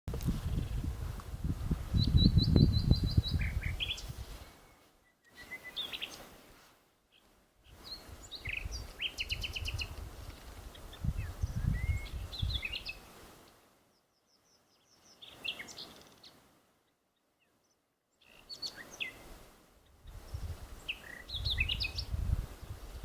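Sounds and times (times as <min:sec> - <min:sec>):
small birds chirping: 0:00.3 - 0:01.1, 0:01.7 - 0:23.0.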